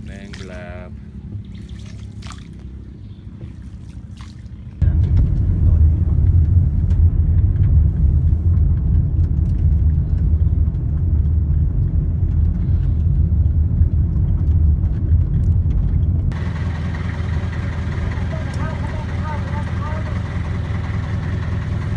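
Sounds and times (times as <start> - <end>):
boat engine rumbling: 0.0 - 21.9.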